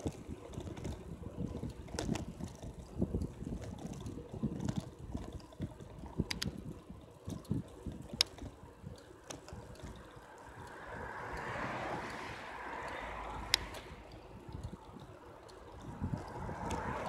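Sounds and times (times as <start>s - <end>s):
bicycle rattling over bumps: 0.0s - 17.0s
passing car tyre noise: 0.0s - 17.0s
road rumble: 0.0s - 17.0s
wind on microphone: 0.0s - 17.0s.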